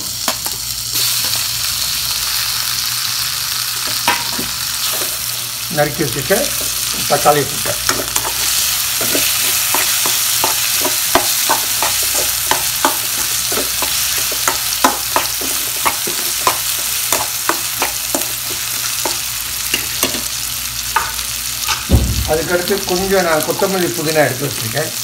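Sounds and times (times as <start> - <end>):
crackles in frying oil: 0.0 - 25.0
vegetables sizzling in hot oil: 0.0 - 25.0.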